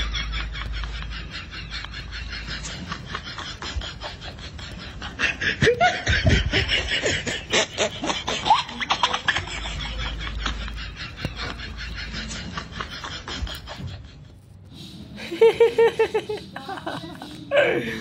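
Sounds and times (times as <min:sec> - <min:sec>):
people laughing and snickering: 0:00.0 - 0:18.0.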